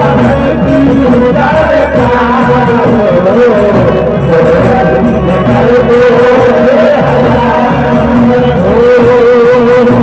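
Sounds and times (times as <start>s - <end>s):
drums: 0.0s - 10.0s
high percussion strokes: 0.0s - 10.0s
person singing melody: 0.0s - 10.0s.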